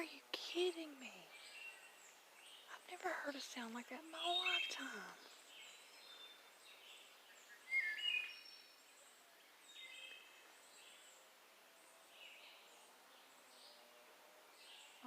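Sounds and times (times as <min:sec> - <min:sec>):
bird calls and chirps: 0:00.0 - 0:15.0
woodland background noise: 0:00.0 - 0:15.0.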